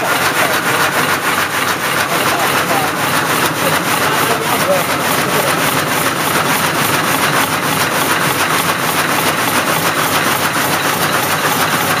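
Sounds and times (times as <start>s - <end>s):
machine running with fast pulse: 0.0s - 12.0s.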